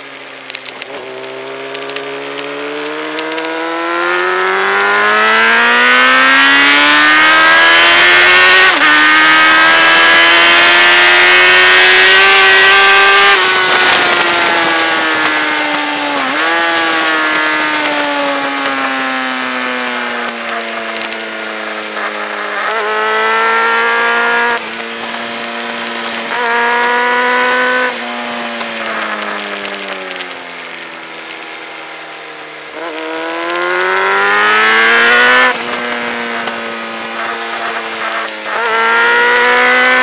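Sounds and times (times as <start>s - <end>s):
motorcycle engine at full throttle: 0.0s - 40.0s.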